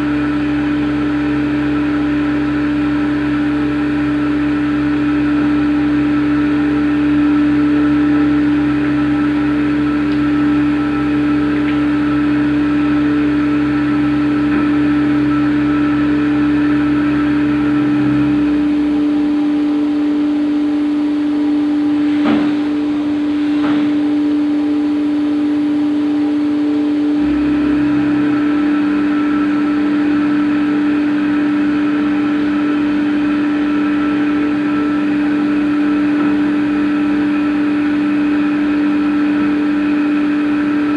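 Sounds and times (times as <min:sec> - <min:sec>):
cnc machine motor whine: 0:00.0 - 0:40.9
deep hum: 0:00.0 - 0:40.9.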